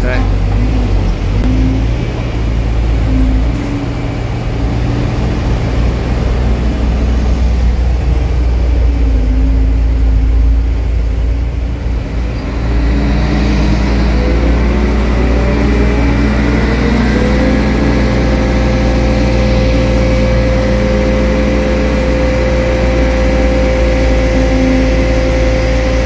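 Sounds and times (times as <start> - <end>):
crane diesel engine humming: 0.0 - 26.0.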